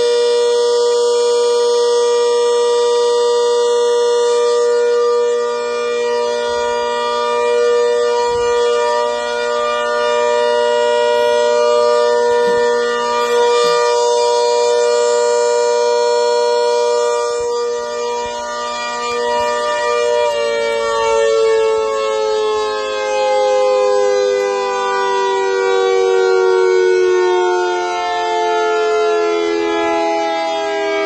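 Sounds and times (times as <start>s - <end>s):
giant horn long steady note: 0.0s - 31.0s.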